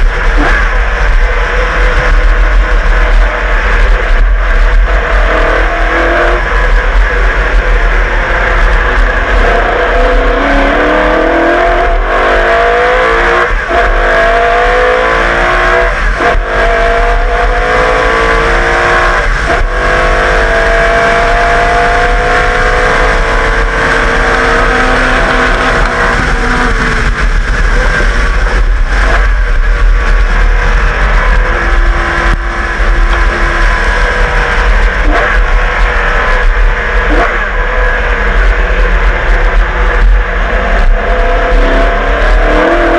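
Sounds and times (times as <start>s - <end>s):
racing engine accelerating: 0.0s - 42.9s.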